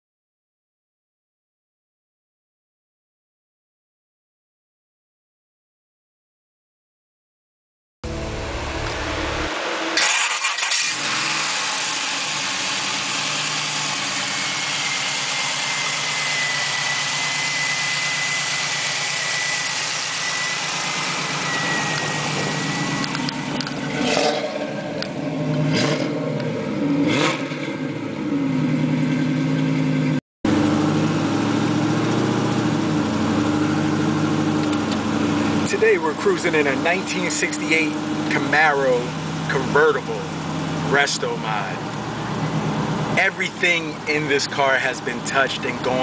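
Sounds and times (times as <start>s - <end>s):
car engine idling: 8.0s - 46.0s
engine revving blips: 8.0s - 46.0s.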